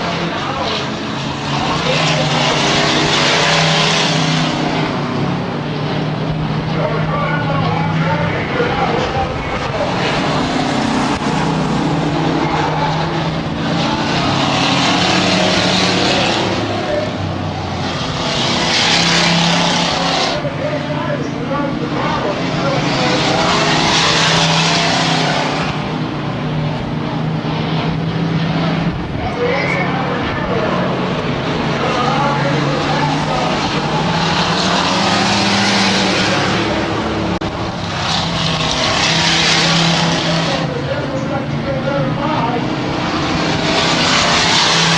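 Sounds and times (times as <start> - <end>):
crowd noise: 0.0 - 44.9
racing truck engines droning: 0.0 - 44.9.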